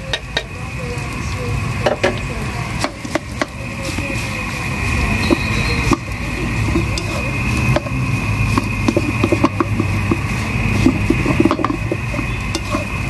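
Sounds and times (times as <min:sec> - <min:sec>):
spatula scraping wok: 0:00.0 - 0:13.0
steady hum: 0:00.0 - 0:13.0.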